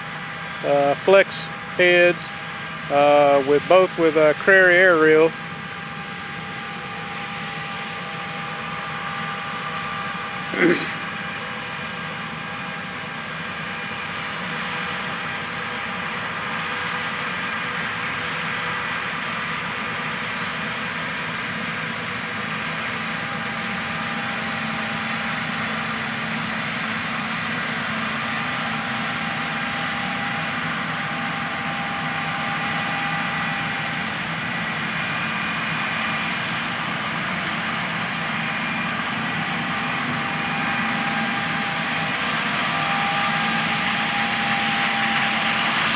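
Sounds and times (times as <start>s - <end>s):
combine harvesters droning: 0.0s - 45.9s.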